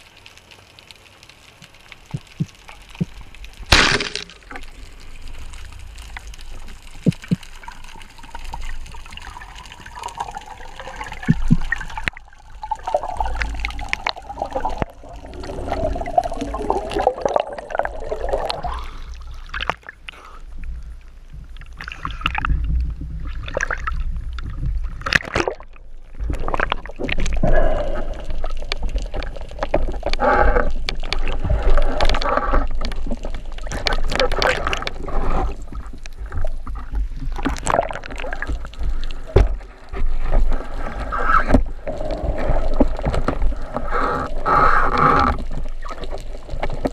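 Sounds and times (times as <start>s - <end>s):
underwater rumble: 1.2s - 46.9s
rush of bubbles: 3.0s - 20.0s, 21.7s - 46.9s
water gurgling and bubbling: 3.6s - 20.0s, 21.4s - 46.9s.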